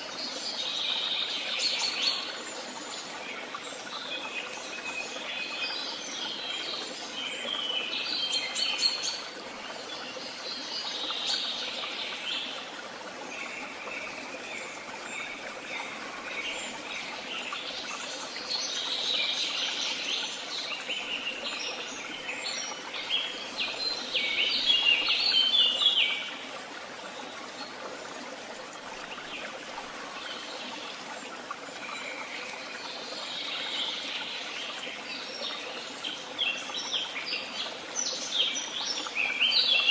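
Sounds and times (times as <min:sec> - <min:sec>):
songbirds singing: 0:00.0 - 0:26.5, 0:29.0 - 0:39.9.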